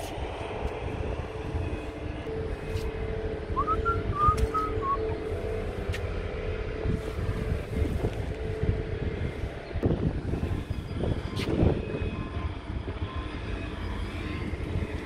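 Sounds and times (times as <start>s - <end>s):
steady droning hum: 0.0s - 15.0s
wind rumbling on microphone: 0.0s - 15.0s.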